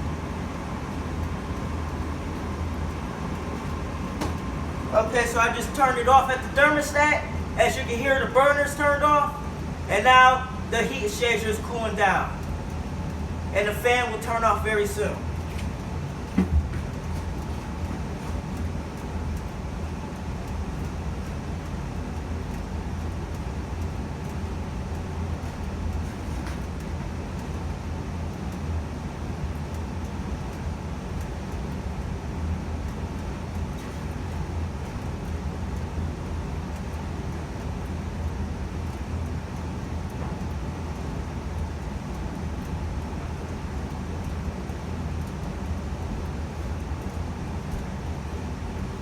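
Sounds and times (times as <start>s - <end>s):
furnace blower fan running: 0.0s - 49.0s.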